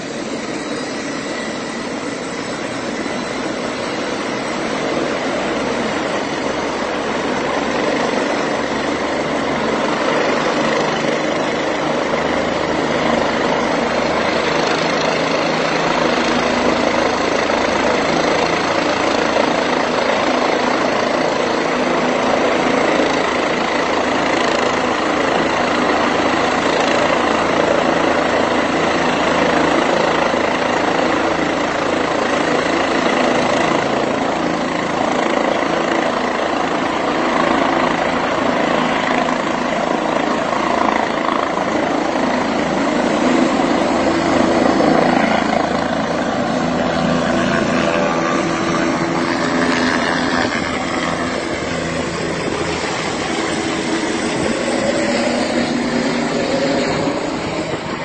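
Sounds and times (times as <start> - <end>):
helicopter rotor noise: 0.0 - 58.0
helicopter turbine whine: 0.0 - 58.0.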